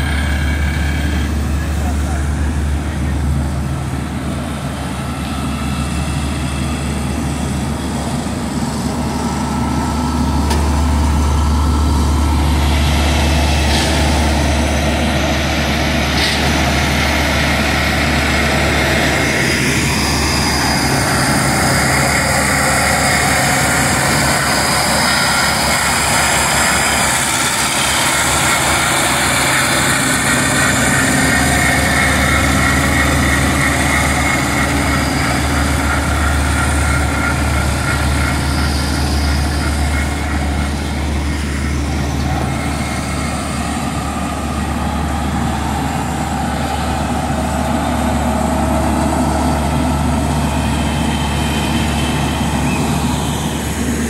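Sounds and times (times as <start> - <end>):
paving machinery diesel engines: 0.0 - 54.0
road roller engine: 0.0 - 54.0.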